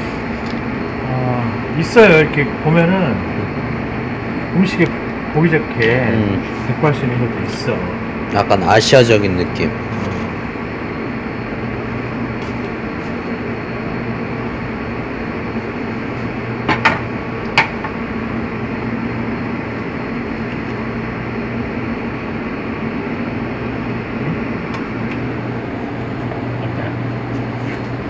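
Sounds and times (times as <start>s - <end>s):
kitchen machinery hum: 0.0s - 28.0s.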